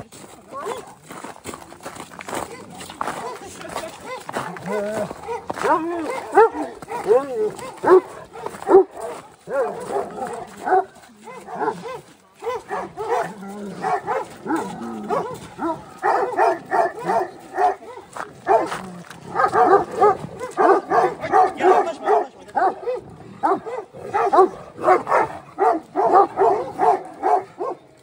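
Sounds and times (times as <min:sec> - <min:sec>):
dogs barking: 0:02.5 - 0:28.0.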